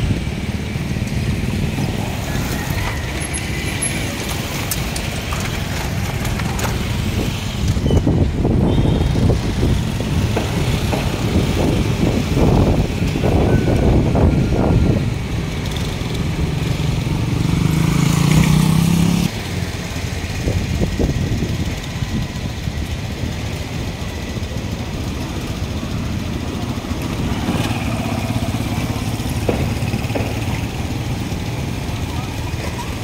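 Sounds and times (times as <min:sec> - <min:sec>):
low traffic rumble: 0:00.0 - 0:33.0
vehicle engine humming: 0:00.0 - 0:33.0.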